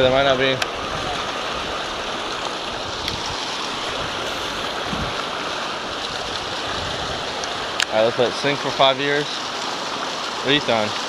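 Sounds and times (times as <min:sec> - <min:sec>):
water rushing from spillway: 0:00.0 - 0:11.0.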